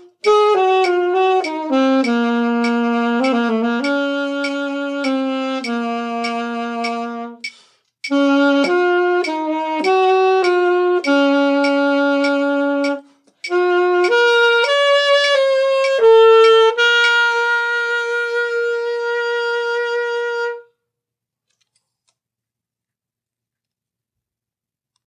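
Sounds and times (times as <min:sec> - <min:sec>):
alto saxophone playing: 0:00.0 - 0:20.8.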